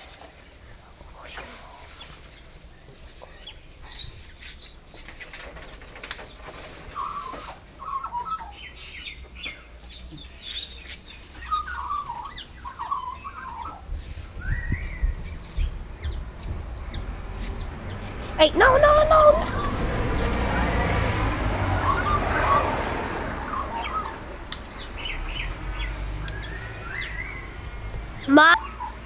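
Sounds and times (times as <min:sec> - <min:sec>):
birds chirping and warbling: 0:01.1 - 0:29.0.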